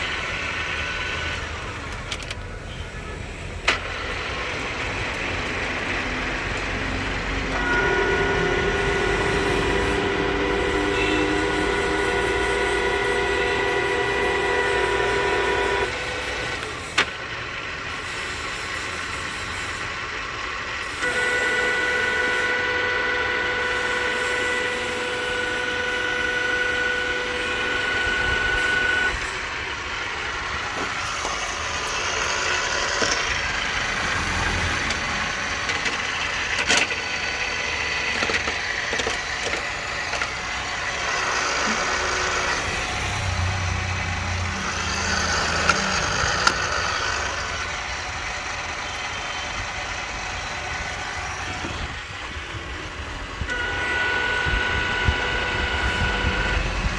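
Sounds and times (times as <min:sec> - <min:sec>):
milling machine gear whine: 0:00.0 - 0:56.9.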